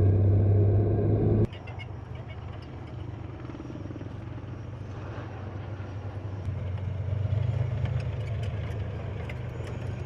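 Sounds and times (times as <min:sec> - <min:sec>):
military vehicle engine rumbling: 0:00.0 - 0:10.0.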